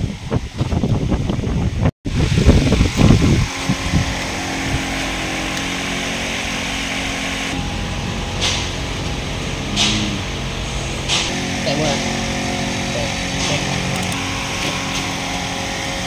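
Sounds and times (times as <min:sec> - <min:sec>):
low uneven rumbling buffeting: 0:00.0 - 0:15.4
machine hum: 0:02.1 - 0:16.0.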